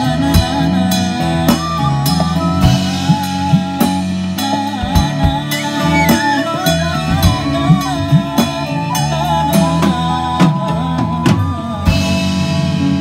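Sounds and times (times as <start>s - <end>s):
man singing: 0.0s - 12.8s
acoustic guitar: 0.0s - 13.0s.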